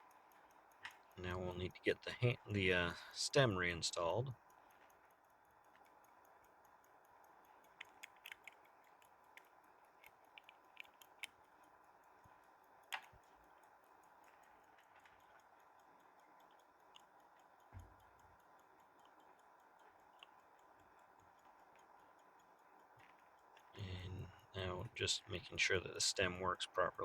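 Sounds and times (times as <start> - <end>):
small metallic clicks: 0.0 - 27.0
watch ticking: 0.0 - 27.0.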